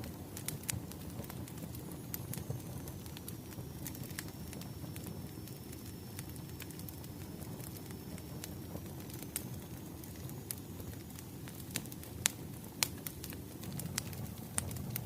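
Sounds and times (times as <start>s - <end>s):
firewood popping: 0.0s - 15.0s
wood fire crackling: 0.0s - 15.0s.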